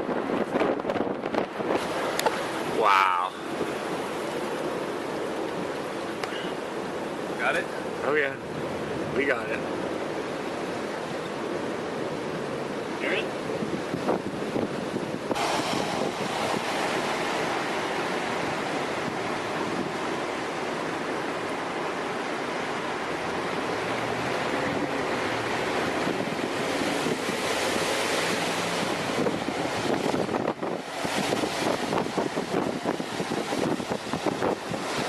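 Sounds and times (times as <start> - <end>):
tornado rushing: 0.0 - 35.0
wind buffeting microphone: 0.0 - 35.0.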